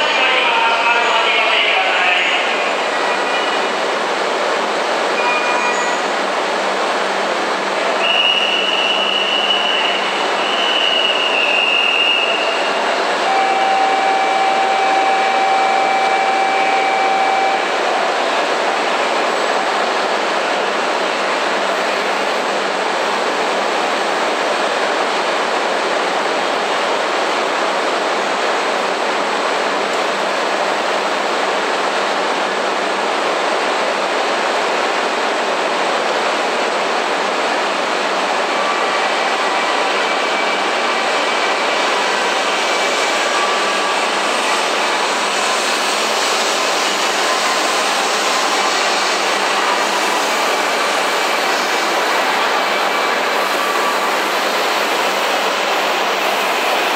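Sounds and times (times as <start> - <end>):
train hissing at platform: 0.0 - 56.9.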